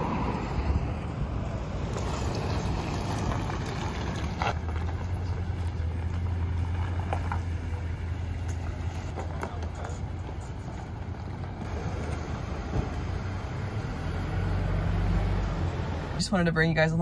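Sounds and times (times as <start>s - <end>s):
pickup engine running low hum: 0.0s - 17.0s.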